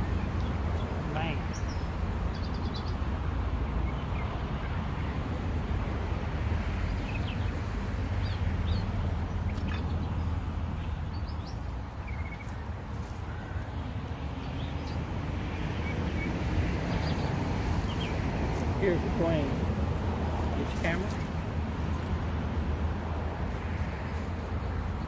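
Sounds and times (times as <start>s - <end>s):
small birds chirping: 0.0s - 5.2s, 6.8s - 22.6s.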